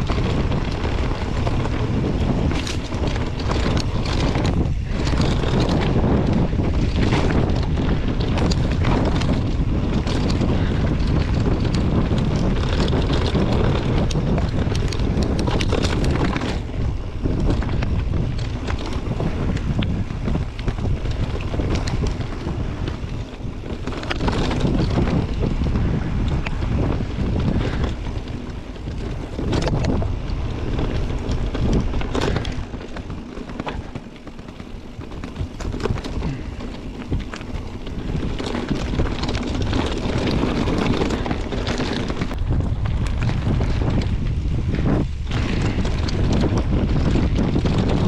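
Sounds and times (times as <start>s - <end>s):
bike clicks and rattles: 0.0s - 48.0s
wind buffeting microphone: 0.0s - 48.0s.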